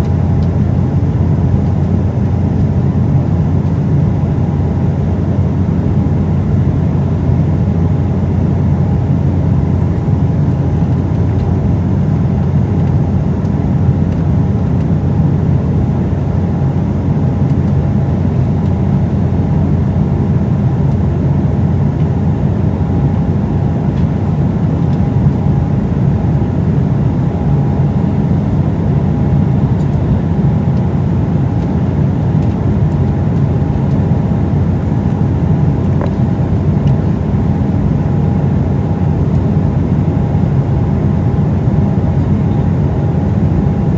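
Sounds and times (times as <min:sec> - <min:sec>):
faint steady hum: 0:00.0 - 0:43.9
jet engine rumble: 0:00.0 - 0:43.9.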